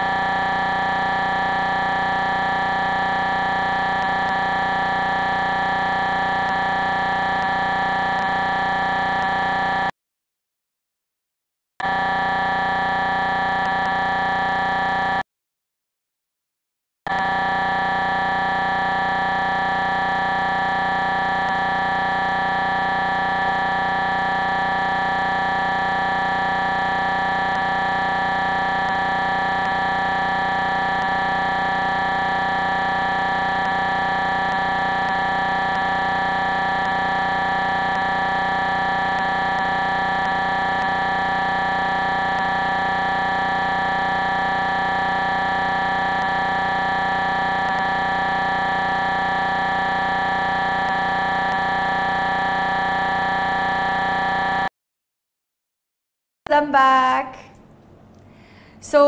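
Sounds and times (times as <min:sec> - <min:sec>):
steady electronic buzz: 0:00.0 - 0:09.9, 0:11.8 - 0:15.2, 0:17.1 - 0:54.7.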